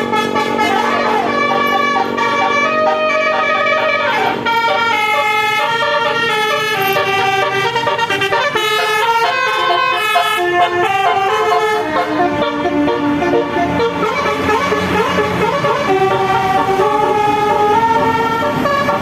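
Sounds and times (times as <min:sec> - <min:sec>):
bus horn playing a tune: 0:00.0 - 0:19.0.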